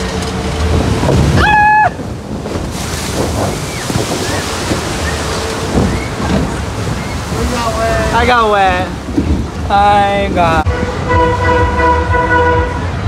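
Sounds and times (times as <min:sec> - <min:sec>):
rushing water: 0:00.0 - 0:13.0
wind on microphone: 0:00.0 - 0:13.0.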